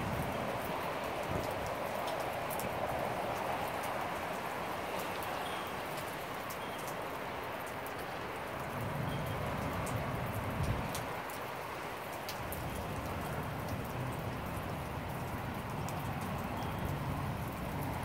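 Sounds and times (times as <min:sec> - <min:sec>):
raindrops ticking on surfaces: 0:00.0 - 0:18.0
steady rain hiss: 0:00.0 - 0:18.0.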